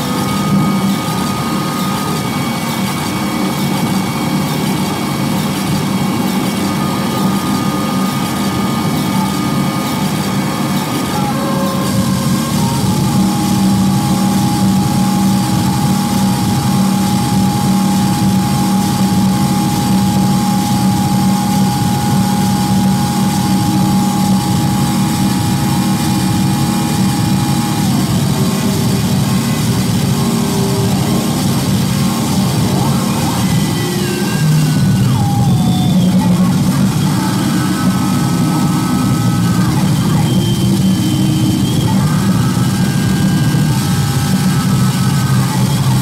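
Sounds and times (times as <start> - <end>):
harsh noise drone and hiss: 0.0 - 46.0
heavy low hum: 0.0 - 46.0
high tone sliding down: 0.0 - 46.0.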